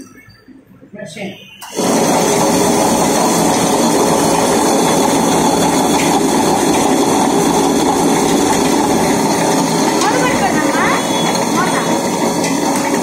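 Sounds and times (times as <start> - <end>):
wet grinder running: 1.6 - 13.0.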